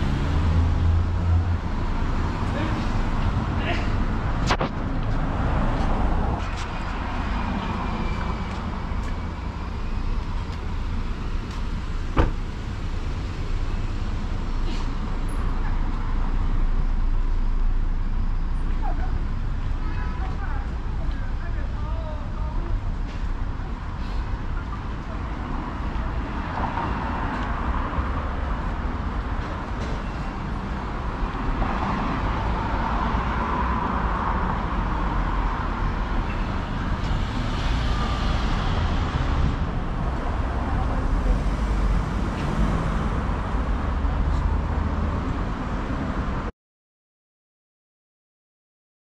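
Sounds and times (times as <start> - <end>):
passing cars humming: 0.0 - 46.5.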